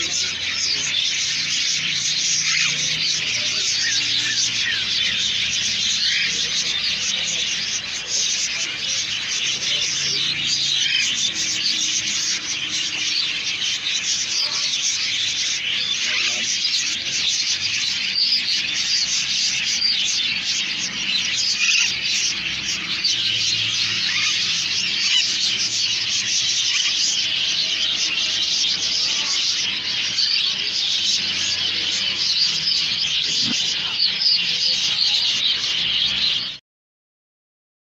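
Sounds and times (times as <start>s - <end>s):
parakeets calling raspily: 0.0s - 36.6s.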